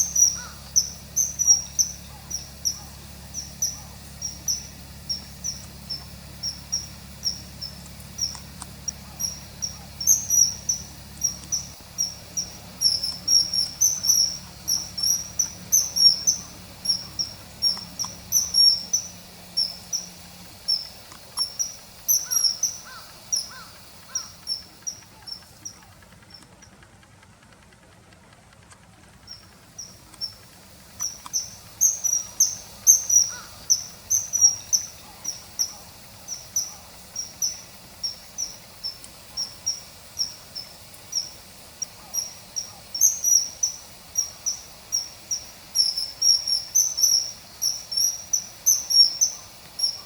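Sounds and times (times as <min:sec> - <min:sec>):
kingfisher calling: 0:00.0 - 0:26.6, 0:29.2 - 0:50.0.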